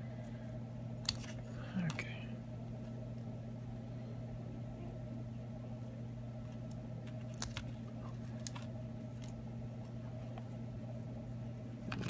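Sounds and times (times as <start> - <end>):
steady low electrical hum: 0.0 - 12.0.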